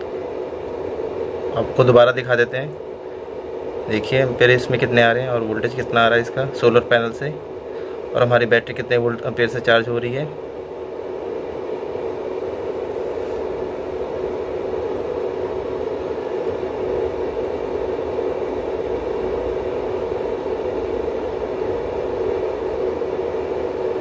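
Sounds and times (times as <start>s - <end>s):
steady whirring hum: 0.0s - 24.0s.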